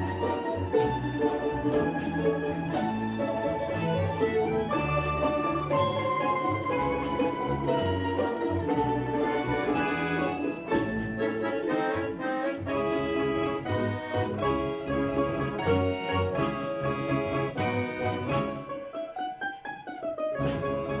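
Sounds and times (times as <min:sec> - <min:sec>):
accordions: 0:00.0 - 0:21.0
plucked strings: 0:00.0 - 0:21.0.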